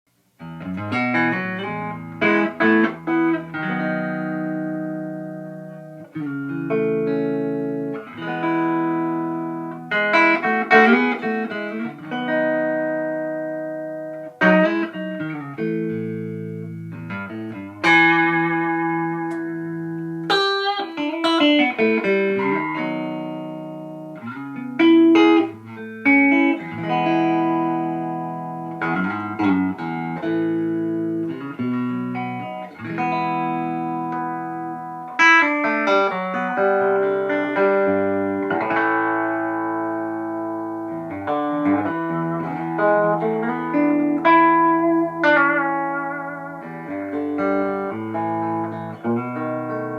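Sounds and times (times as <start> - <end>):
solo guitar playing: 0.4 - 49.9.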